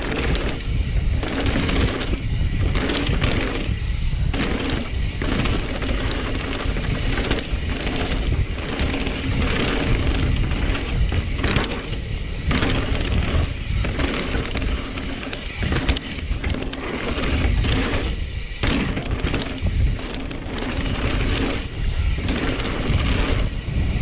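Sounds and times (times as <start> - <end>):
bike tyres rumbling over dirt: 0.0 - 24.0
wind buffeting microphone: 0.0 - 24.0.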